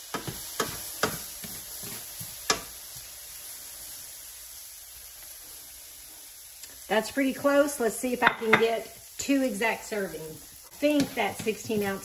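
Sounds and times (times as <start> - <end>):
faint sizzling in a skillet: 0.0 - 12.0.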